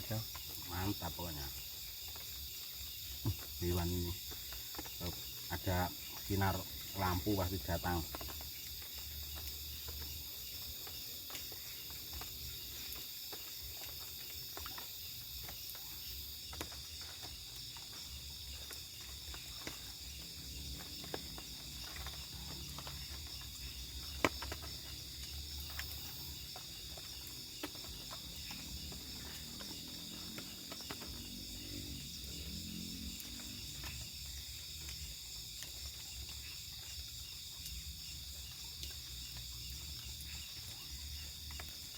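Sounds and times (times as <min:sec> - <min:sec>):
crickets and insects chirping: 0:00.0 - 0:41.9.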